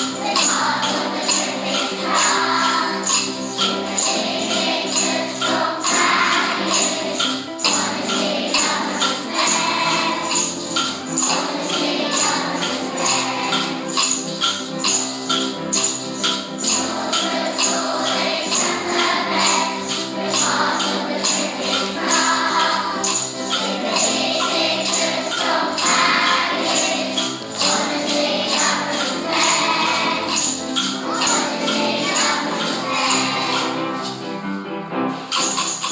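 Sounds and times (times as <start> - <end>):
tambourine-like jingling beat: 0.0 - 34.6, 35.2 - 35.9.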